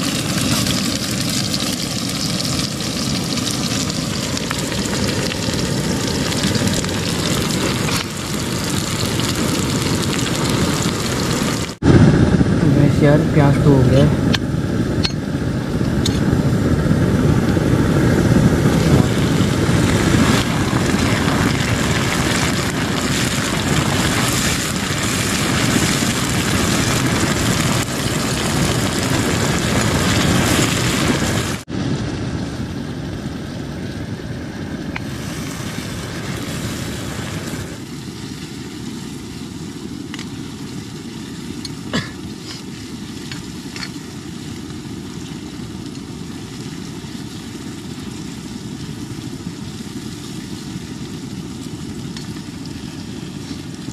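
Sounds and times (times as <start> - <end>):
gas stove burning: 0.0 - 53.9.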